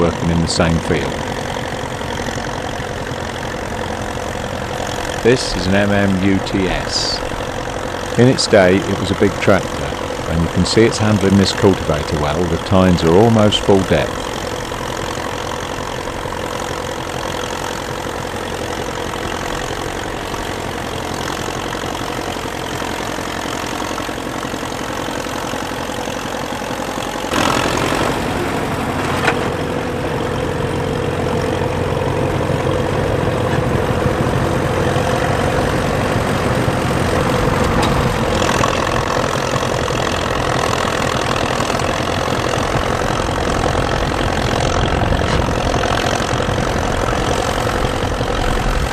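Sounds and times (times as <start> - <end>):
tractor engine running under load: 0.0 - 48.9.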